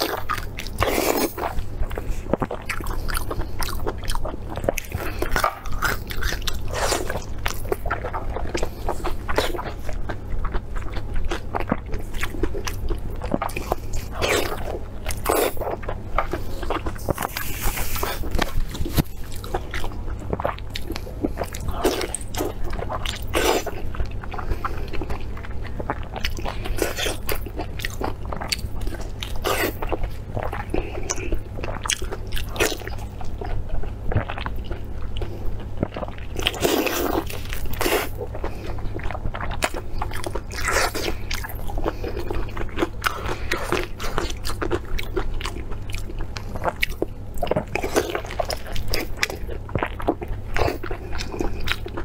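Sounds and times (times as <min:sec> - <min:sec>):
biting and chewing: 0:00.0 - 0:52.0.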